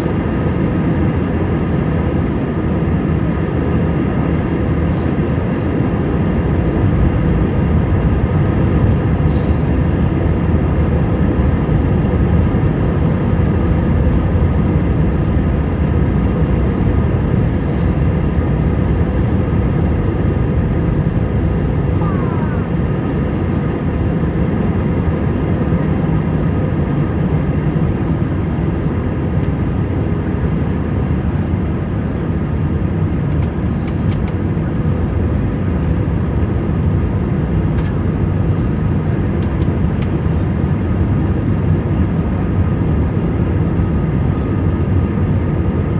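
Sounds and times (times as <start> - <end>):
airplane cabin engine rush: 0.0 - 45.9.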